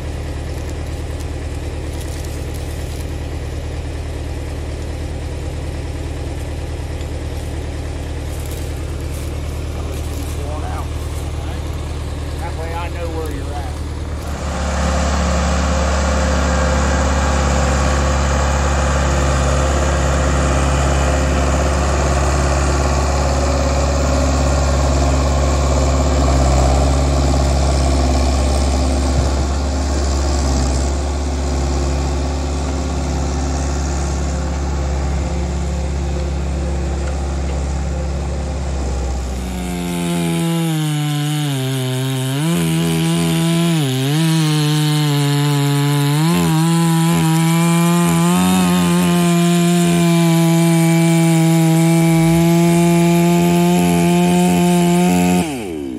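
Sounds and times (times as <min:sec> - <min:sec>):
chainsaw cutting log: 0:00.0 - 0:55.9
diesel engine droning: 0:00.0 - 0:55.9.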